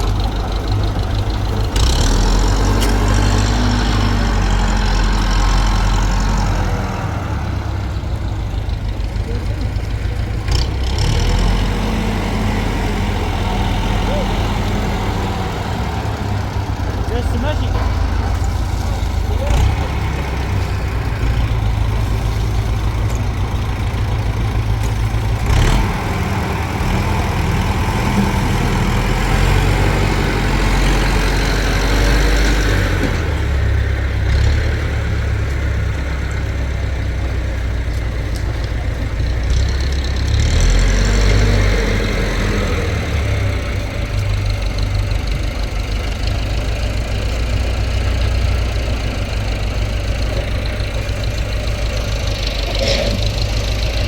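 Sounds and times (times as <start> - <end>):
machinery engine running: 0.0 - 54.0.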